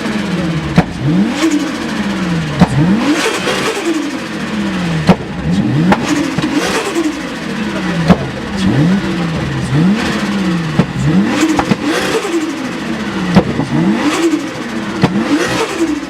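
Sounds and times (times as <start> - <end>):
car engine revving: 0.0 - 16.0
short sharp engine bursts: 0.0 - 16.0.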